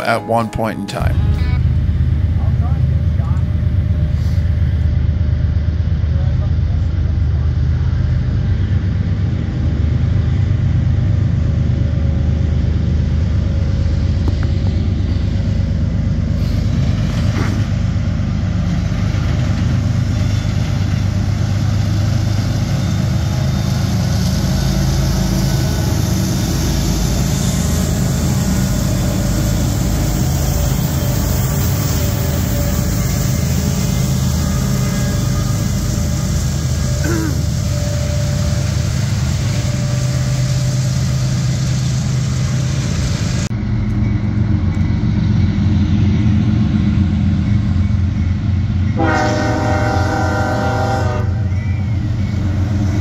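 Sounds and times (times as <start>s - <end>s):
locomotive engines rumbling: 0.0s - 53.0s
train wheels on rails: 1.0s - 53.0s.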